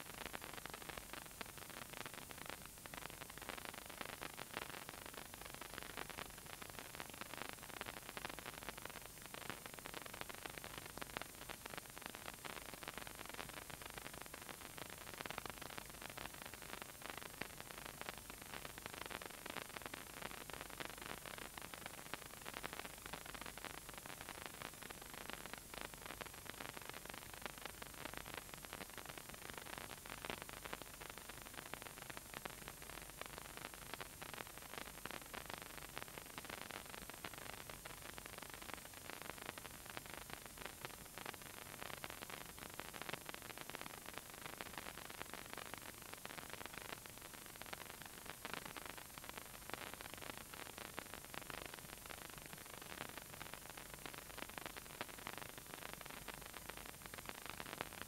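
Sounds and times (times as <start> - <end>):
faint steady hiss: 0.0 - 58.0
small crackles and rustles: 0.0 - 58.0.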